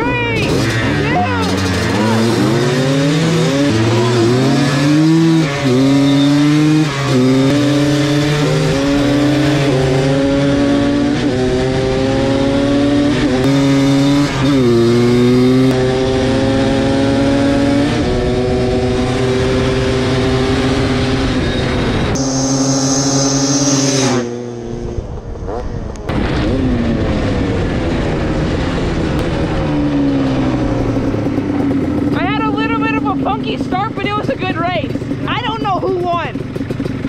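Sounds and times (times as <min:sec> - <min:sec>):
two-stroke atv engines accelerating: 0:00.0 - 0:37.0.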